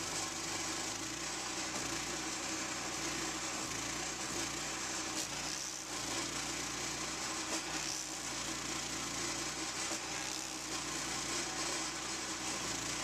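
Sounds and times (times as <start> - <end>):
stump grinder engine running: 0.0 - 13.0.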